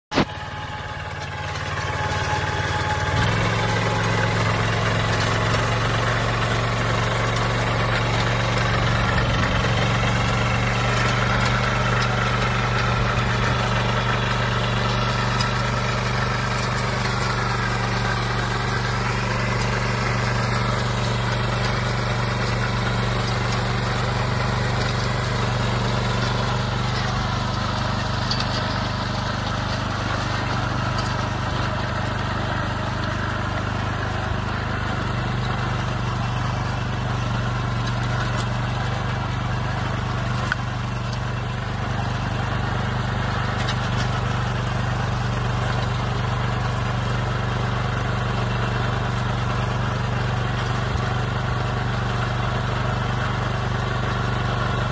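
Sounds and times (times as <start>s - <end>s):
plough throwing soil: 0.1s - 54.9s
small cultivator engine running: 0.1s - 54.9s.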